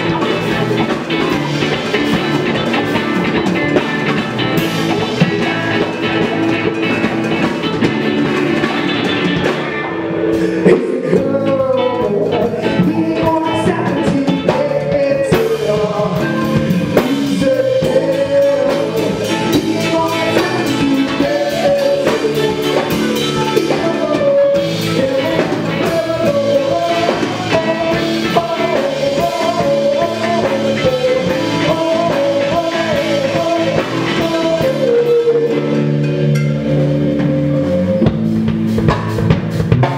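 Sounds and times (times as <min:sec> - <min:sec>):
person singing: 0:00.0 - 0:38.3
drum kit: 0:00.0 - 0:39.9
electric guitars: 0:00.0 - 0:39.9.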